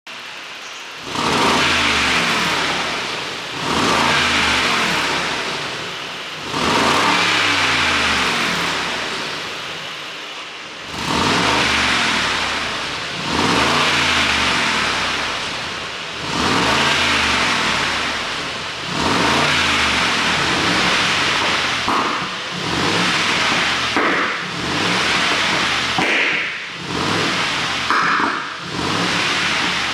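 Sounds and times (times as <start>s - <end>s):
car engine revving: 0.2s - 29.9s
exhaust crackling: 0.2s - 29.9s.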